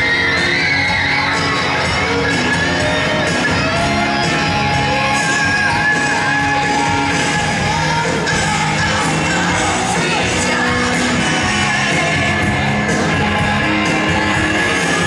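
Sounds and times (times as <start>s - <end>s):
audience shouting: 0.0s - 15.0s
person singing: 0.0s - 15.0s
rock band playing: 0.0s - 15.0s.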